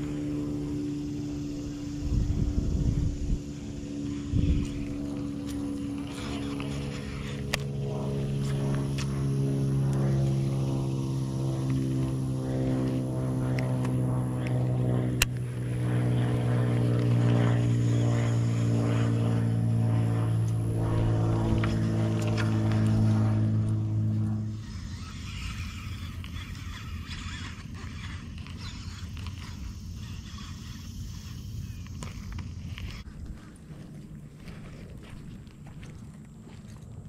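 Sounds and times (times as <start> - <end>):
motor engine running: 0.0 - 37.0.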